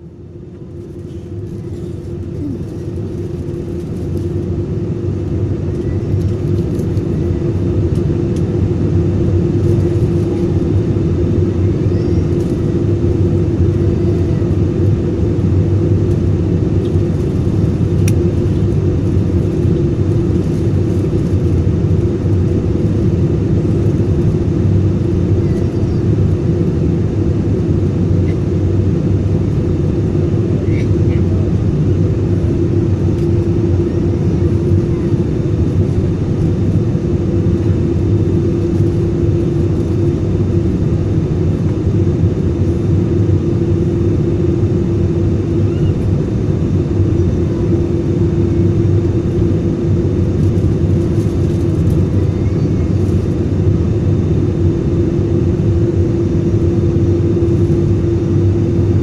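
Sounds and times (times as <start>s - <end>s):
aircraft engine and airflow drone: 0.0s - 59.0s.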